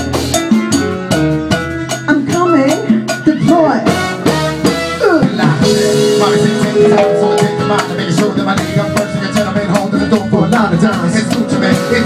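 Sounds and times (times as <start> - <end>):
drums and hand percussion: 0.0 - 12.0
live band playing: 0.0 - 12.0.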